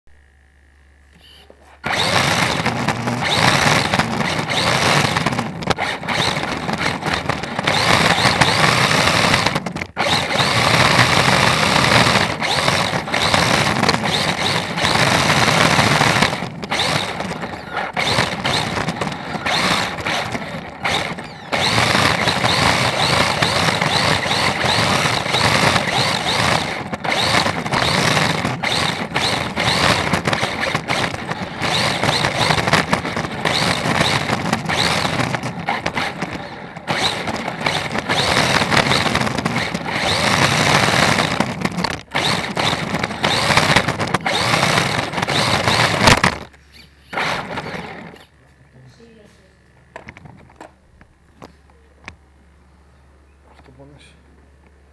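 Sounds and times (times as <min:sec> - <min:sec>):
electric motor whining: 0:01.1 - 0:48.4.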